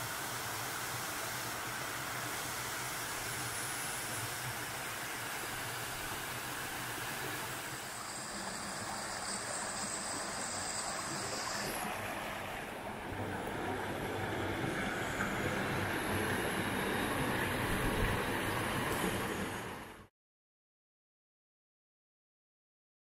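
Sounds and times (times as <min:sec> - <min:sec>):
flowing river water: 0:00.0 - 0:20.1.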